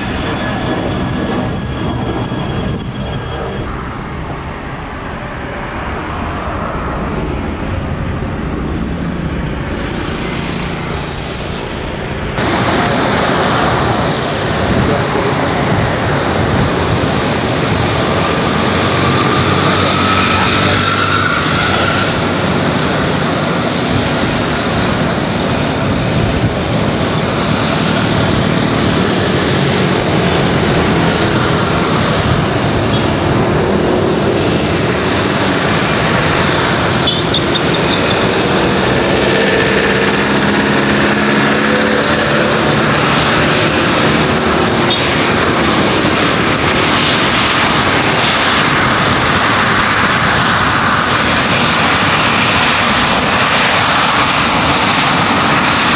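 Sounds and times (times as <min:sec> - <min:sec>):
jet engines running loudly: 0:00.0 - 0:55.9.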